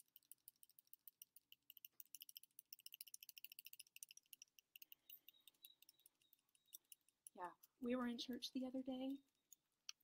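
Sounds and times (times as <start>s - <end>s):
faint high-pitched clicking: 0.0s - 10.0s.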